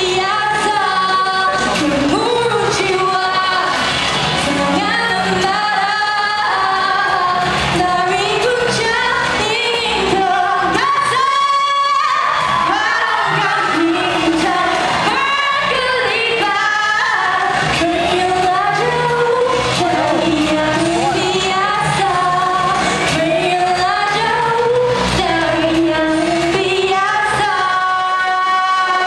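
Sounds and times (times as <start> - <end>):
backing music: 0.0 - 29.0
woman singing: 0.0 - 29.0.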